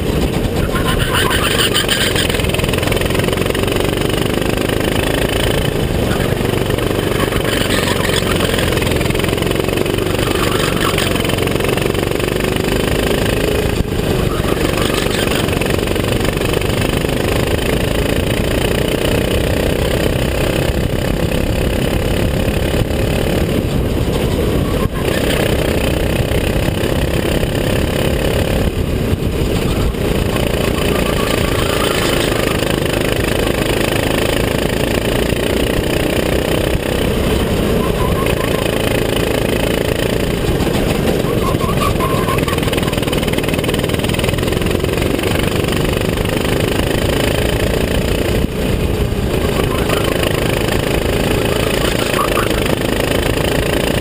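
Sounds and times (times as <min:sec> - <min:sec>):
go-kart engine racing: 0:00.0 - 0:54.0
steady rushing noise: 0:00.0 - 0:54.0.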